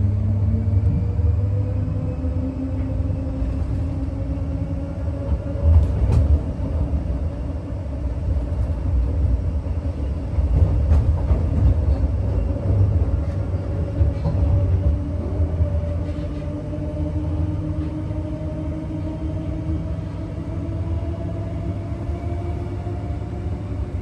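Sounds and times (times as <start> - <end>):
train running gear rumble: 0.0 - 24.0.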